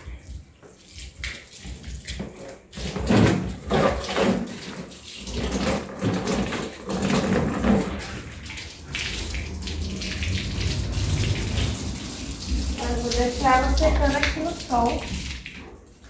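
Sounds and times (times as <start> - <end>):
hose water splashing on plastic: 0.0 - 16.0
water pouring onto tiles: 0.0 - 16.0.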